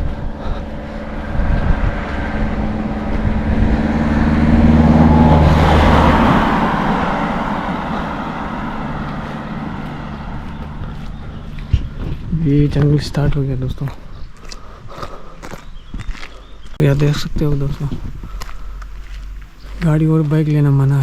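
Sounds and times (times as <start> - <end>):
vehicle passing by: 0.0 - 14.4, 17.1 - 21.0.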